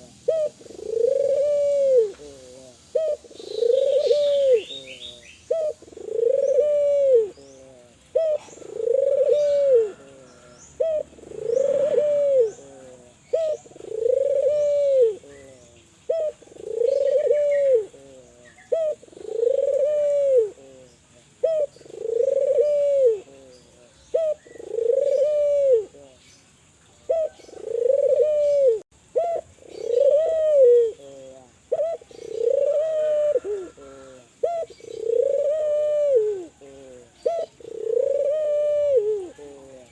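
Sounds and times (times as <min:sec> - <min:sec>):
dove cooing: 0:00.0 - 0:26.4, 0:27.0 - 0:39.9
small birds chirping faintly: 0:00.0 - 0:39.9.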